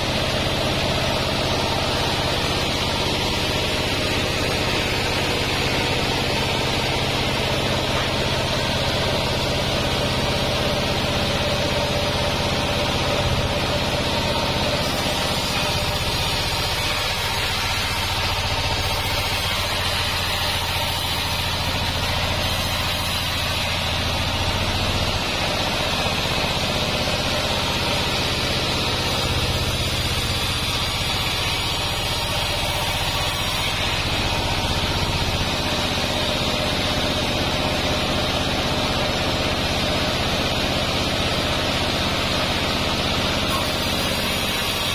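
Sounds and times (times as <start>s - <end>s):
band sawmill humming: 0.0s - 44.9s.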